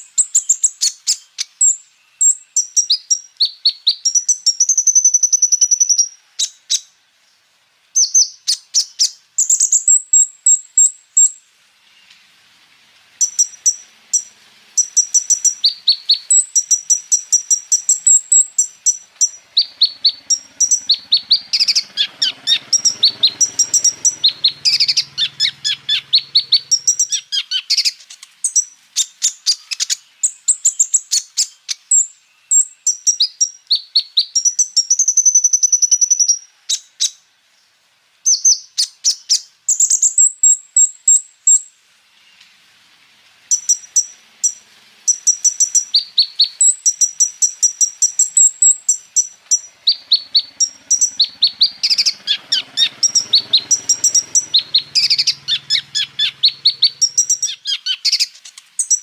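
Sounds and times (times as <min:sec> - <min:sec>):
sunbird singing high chips and trills: 0:00.0 - 0:12.4, 0:13.2 - 0:42.6, 0:43.5 - 0:59.0.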